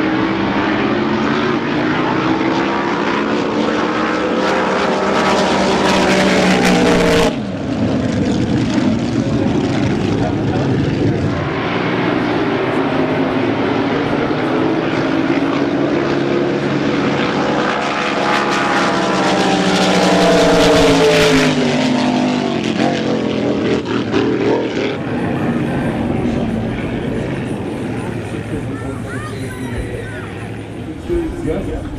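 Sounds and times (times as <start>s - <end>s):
racing boat engine passing: 0.0s - 31.9s.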